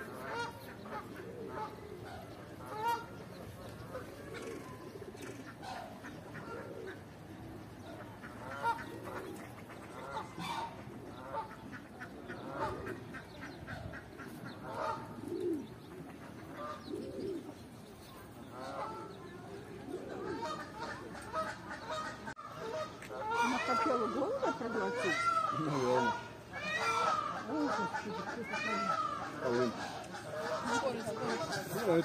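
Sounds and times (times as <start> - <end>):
birds honking and cooing: 0.0 - 32.0.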